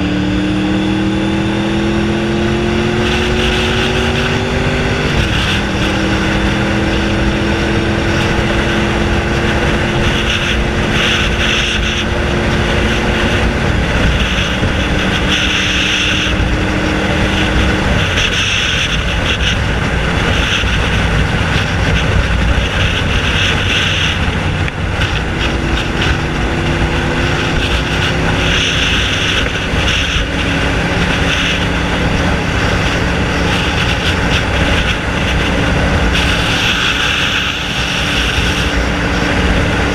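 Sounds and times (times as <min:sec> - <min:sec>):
heavy wind noise: 0:00.0 - 0:39.9
unmuffled motorcycle engine: 0:00.0 - 0:39.9.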